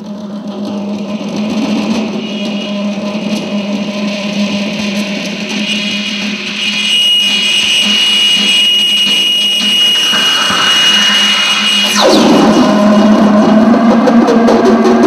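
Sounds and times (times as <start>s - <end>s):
electronic noise drone: 1.1s - 15.0s
steady high-pitched tone: 2.0s - 14.9s.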